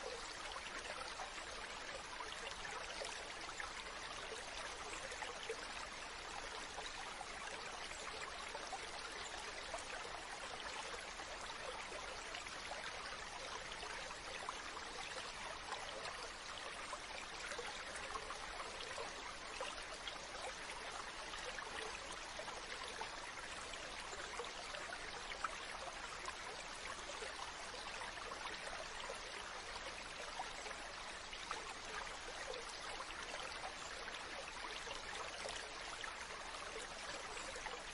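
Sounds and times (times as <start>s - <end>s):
stream flowing over rocks: 0.0s - 37.9s.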